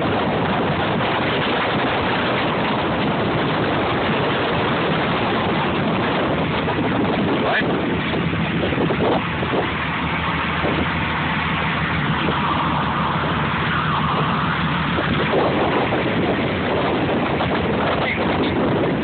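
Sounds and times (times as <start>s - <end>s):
boat engine humming: 0.0s - 19.0s
water: 0.0s - 19.0s
wind on microphone: 0.0s - 19.0s.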